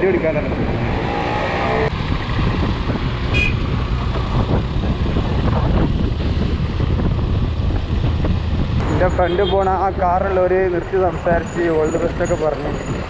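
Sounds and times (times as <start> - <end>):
motorbike engine and wind: 0.0 - 13.0.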